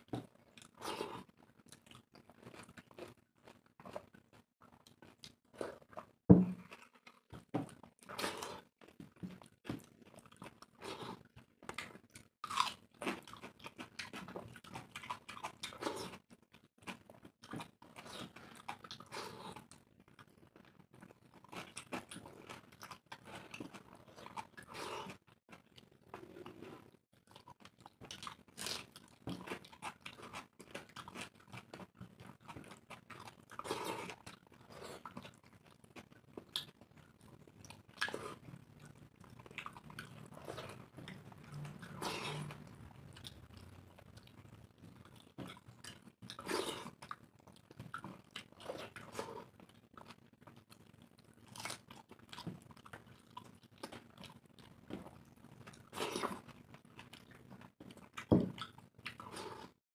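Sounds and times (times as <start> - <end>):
chewing and mouth sounds: 0.0 - 59.8.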